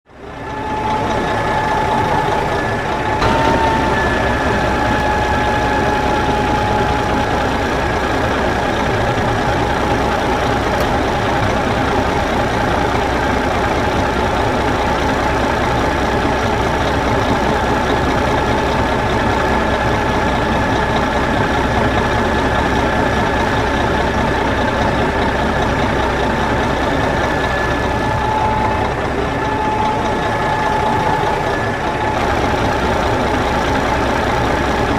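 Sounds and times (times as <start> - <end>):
high-pitched whine: 0.1 - 34.9
tractor engine idling: 0.1 - 34.9.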